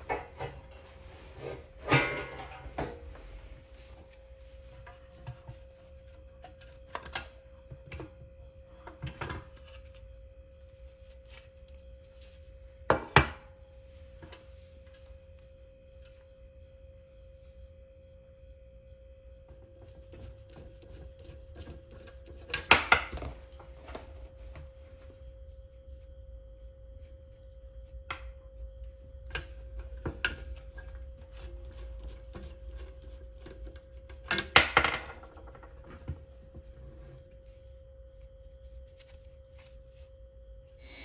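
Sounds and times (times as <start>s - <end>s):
faint high hum: 0.0s - 41.0s.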